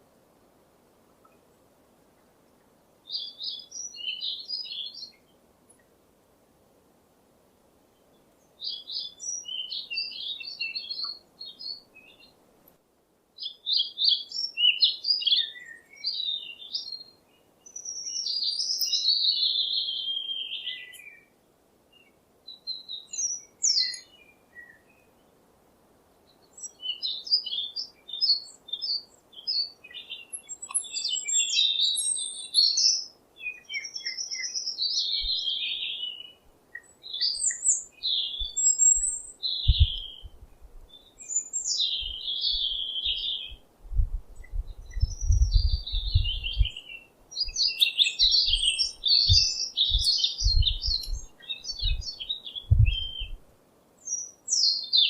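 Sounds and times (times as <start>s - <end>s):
songbird singing: 0.0s - 6.0s, 7.8s - 12.8s, 13.4s - 55.0s.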